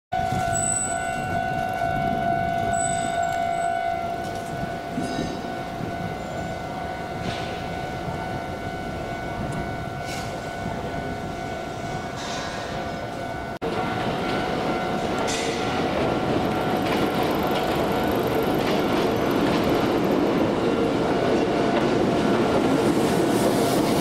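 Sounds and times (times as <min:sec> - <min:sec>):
level crossing warning tone: 0:00.2 - 0:20.5
train wheels rumbling on rails: 0:00.2 - 0:24.0.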